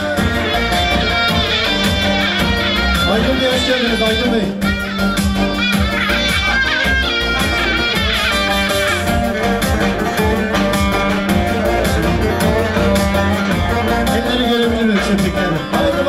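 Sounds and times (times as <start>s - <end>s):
plucked string instrument melody: 0.0s - 16.0s
steady beat: 0.0s - 16.0s.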